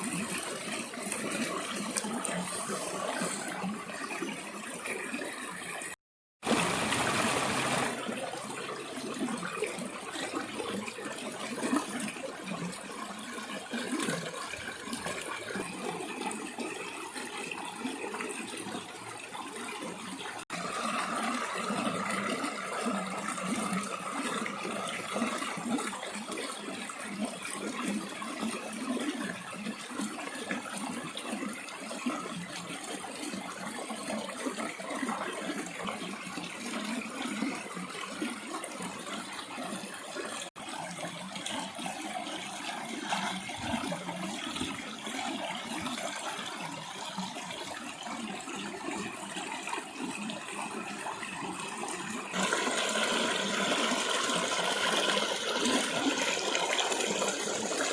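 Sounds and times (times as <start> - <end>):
water rushing and splashing: 0.0 - 29.4, 32.1 - 57.9.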